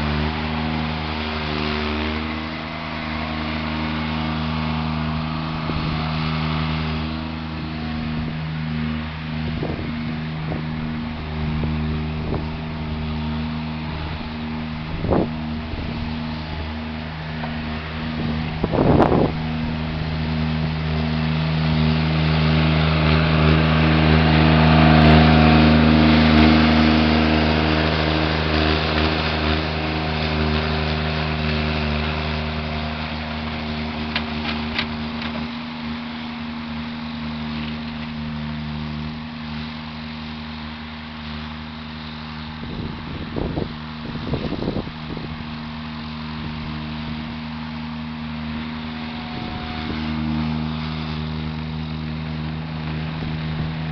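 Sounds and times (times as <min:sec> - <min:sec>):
skid steer engine running under load: 0:00.0 - 0:53.9.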